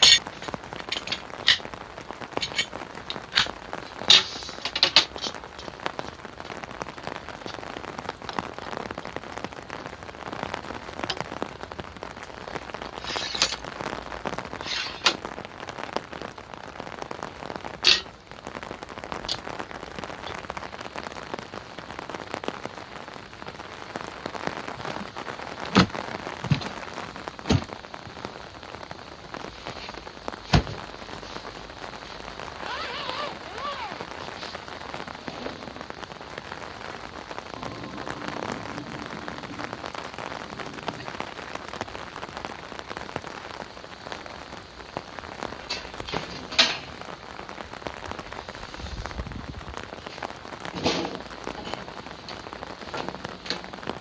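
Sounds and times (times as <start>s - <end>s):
steady heavy rain: 0.0s - 54.0s.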